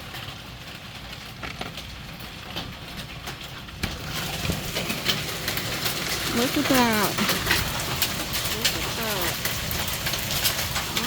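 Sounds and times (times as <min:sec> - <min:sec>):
hailstones pelting hard surfaces: 0:00.0 - 0:11.0.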